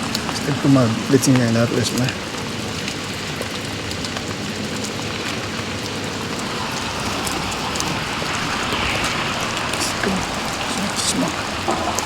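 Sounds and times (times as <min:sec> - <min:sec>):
heavy rain hiss: 0:00.0 - 0:12.0
raindrop ticks: 0:00.0 - 0:12.0.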